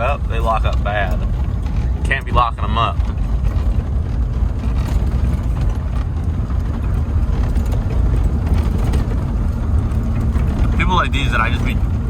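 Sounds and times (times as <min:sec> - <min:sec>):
road noise: 0:00.0 - 0:12.0
truck engine rumbling: 0:00.0 - 0:12.0.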